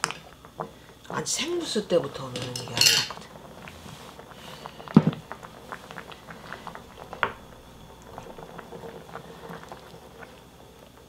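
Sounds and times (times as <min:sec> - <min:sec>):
broth simmering and bubbling: 0:00.0 - 0:11.0.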